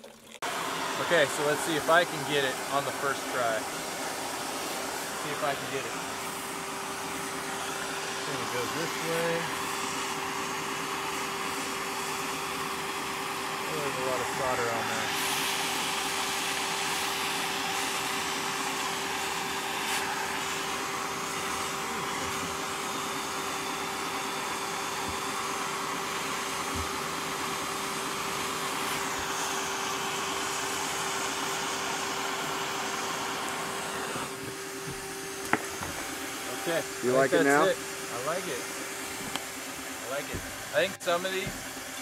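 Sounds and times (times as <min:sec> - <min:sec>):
soldering torch flame hissing: 0:00.4 - 0:42.0.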